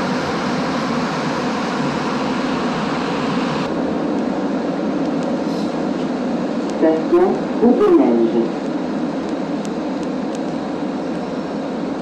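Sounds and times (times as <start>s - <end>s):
train running: 0.0s - 12.0s.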